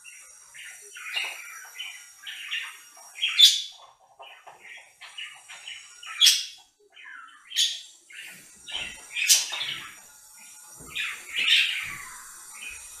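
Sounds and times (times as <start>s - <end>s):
budgerigars chirping and warbling: 0.0s - 13.0s.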